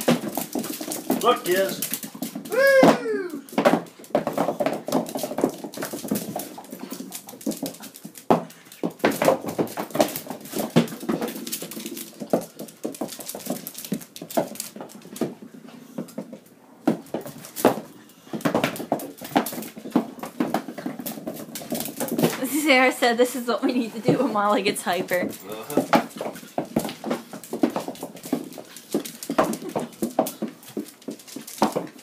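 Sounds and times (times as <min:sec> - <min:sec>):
dog claws clicking on hard floor: 0:00.0 - 0:02.6, 0:03.3 - 0:32.0
small objects bouncing on floor: 0:00.0 - 0:32.0.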